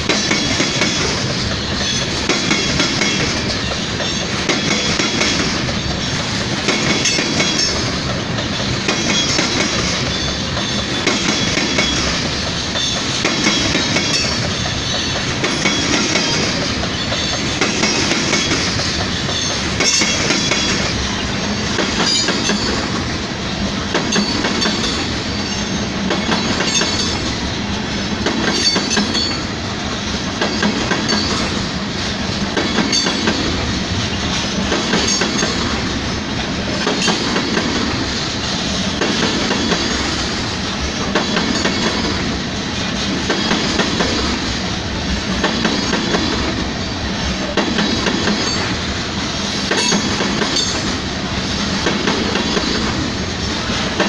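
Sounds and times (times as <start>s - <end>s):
freight train rolling past: 0.0s - 54.0s
wheels clacking over rail joints: 0.0s - 54.0s.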